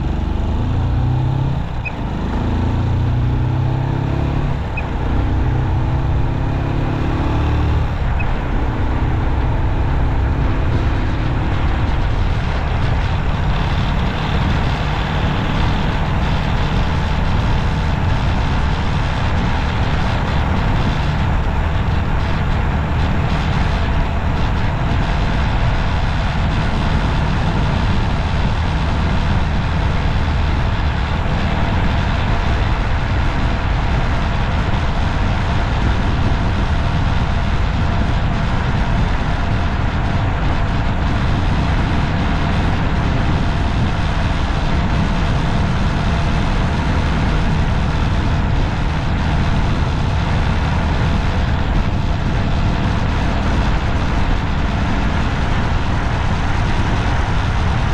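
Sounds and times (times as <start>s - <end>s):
road traffic rumble: 0.0s - 57.9s.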